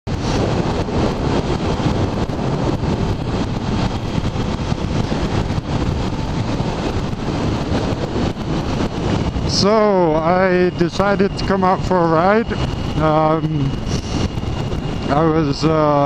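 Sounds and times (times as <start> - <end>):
heavy wind buffeting microphone: 0.0 - 16.0
road noise: 0.0 - 16.0.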